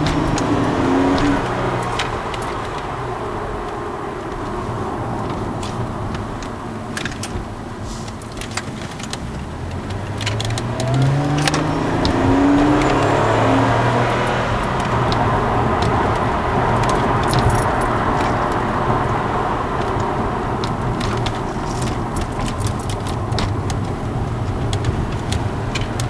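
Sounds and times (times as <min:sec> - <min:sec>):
car engine accelerating: 0:00.0 - 0:26.0
light clicks and jingles: 0:00.0 - 0:26.0.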